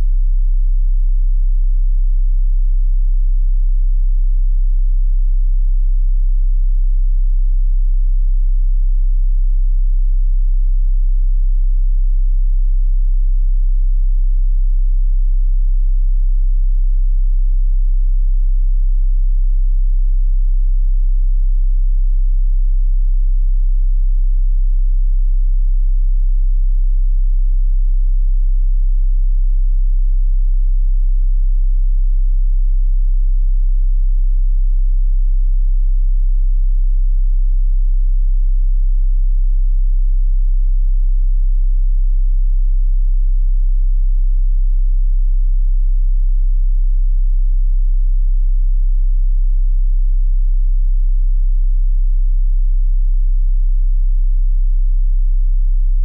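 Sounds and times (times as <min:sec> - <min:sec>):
deep sine tone hum: 0:00.0 - 0:56.0.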